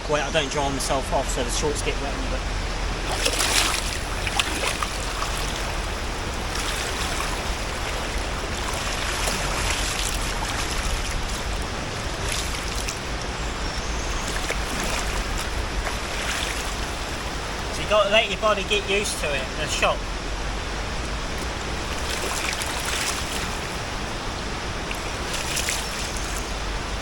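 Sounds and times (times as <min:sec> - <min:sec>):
water splashing: 0:00.9 - 0:27.0
river water rushing over rocks: 0:01.4 - 0:27.0.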